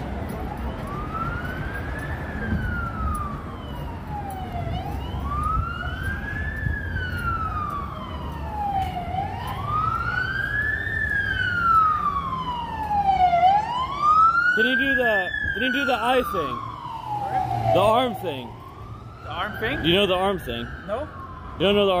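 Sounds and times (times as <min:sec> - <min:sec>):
siren wailing: 0:00.0 - 0:22.0
street traffic rumble: 0:00.0 - 0:22.0.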